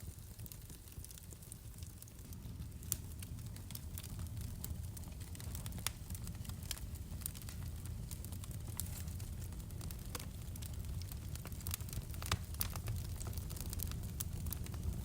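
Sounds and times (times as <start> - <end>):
low rumble of flames: 0.0 - 15.0
wood fire crackling: 0.0 - 15.0
sharp pops of fire: 0.1 - 15.0.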